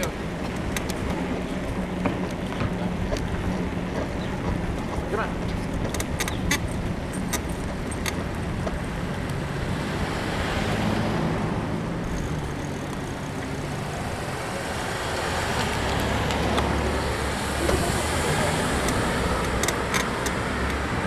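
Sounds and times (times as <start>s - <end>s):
passing car engines humming: 0.0s - 21.0s
road traffic: 0.0s - 21.0s.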